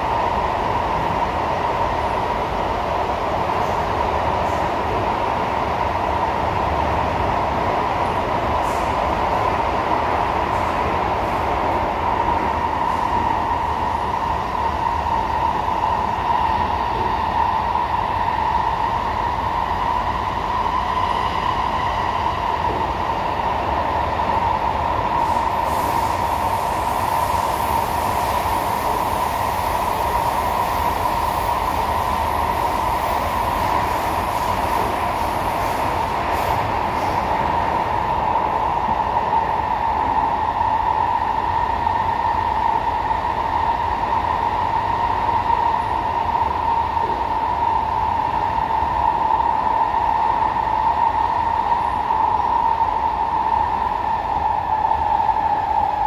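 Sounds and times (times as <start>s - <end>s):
metro train wheels droning: 0.0s - 56.0s.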